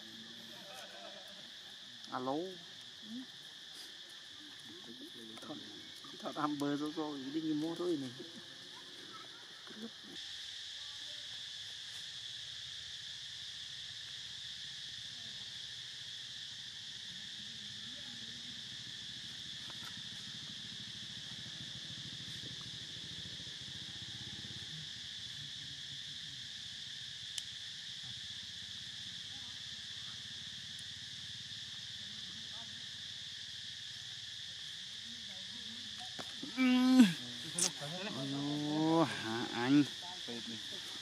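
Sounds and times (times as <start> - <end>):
high-pitched insect drone: 0.0 - 41.0.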